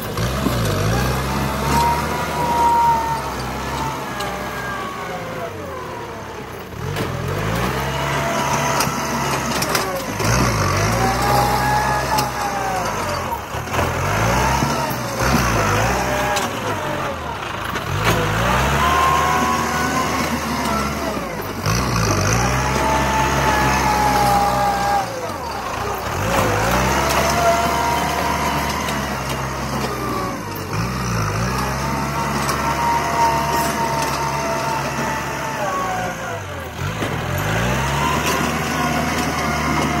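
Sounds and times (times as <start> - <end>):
blade pushing soil: 0.0 - 40.0
tractor diesel engine revving: 0.0 - 40.0.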